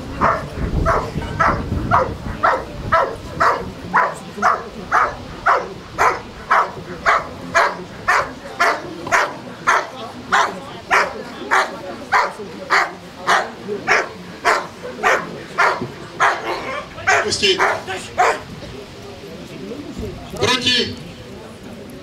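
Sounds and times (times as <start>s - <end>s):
dog barking: 0.2s - 18.5s.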